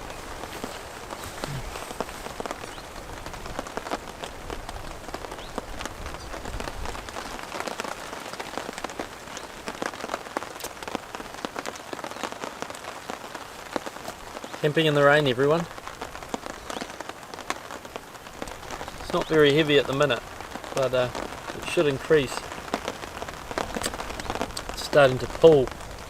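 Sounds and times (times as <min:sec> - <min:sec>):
light rain falling: 0:00.0 - 0:26.0
raindrops tapping sharply: 0:00.0 - 0:26.0.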